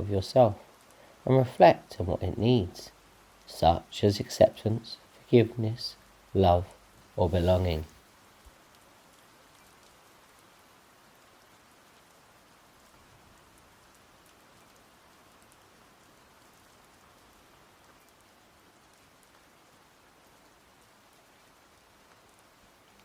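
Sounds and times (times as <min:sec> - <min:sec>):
light rain hiss: 0:00.0 - 0:23.0.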